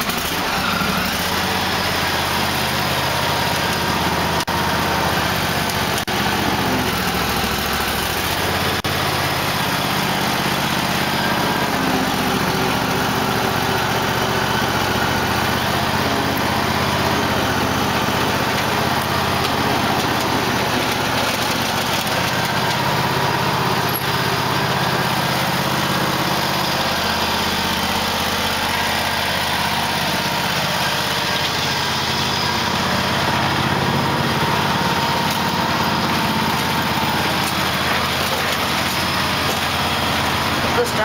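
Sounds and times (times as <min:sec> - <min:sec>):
small gasoline engine running: 0:00.0 - 0:41.0.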